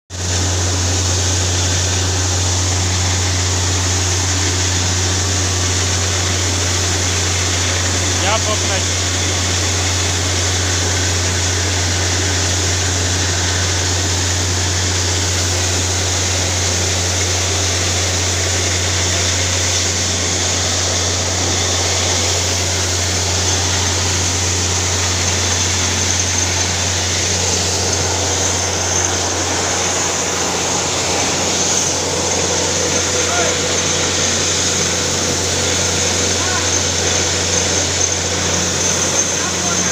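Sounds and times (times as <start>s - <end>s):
drilling rig engine hum: 0.1s - 39.9s
hiss of water and slurry: 0.2s - 39.9s.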